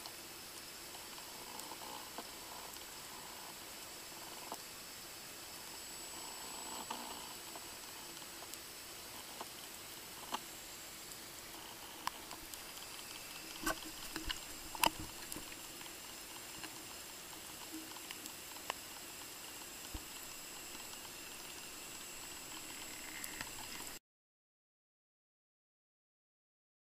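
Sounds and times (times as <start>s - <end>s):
faint high whining tones: 0.0s - 24.0s
underwater hiss: 0.0s - 24.0s.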